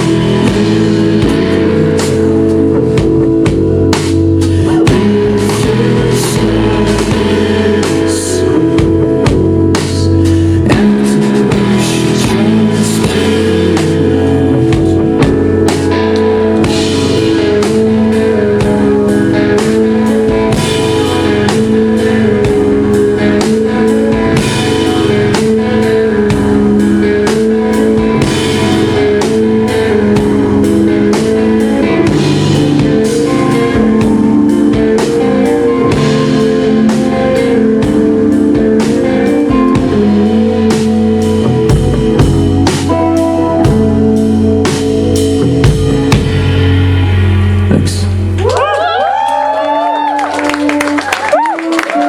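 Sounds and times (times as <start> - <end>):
drum kit steady beat: 0.0 - 49.8
guitars holding chords: 0.0 - 52.0.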